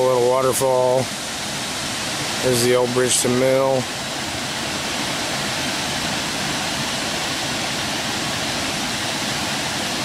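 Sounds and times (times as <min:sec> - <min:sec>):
water rushing over small waterfall: 0:00.0 - 0:10.0.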